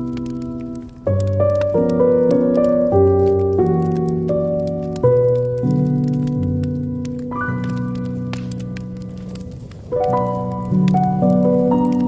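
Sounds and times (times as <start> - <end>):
fireplace crackling: 0.0 - 12.0
slow classical piano music: 0.0 - 12.0.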